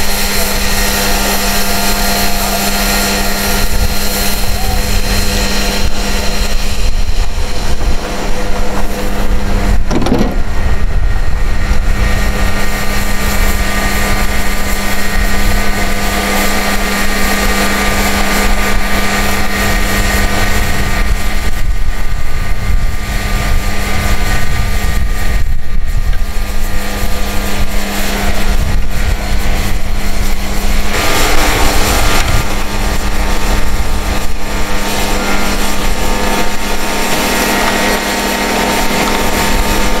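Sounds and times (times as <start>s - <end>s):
truck diesel engine running: 0.0s - 40.0s.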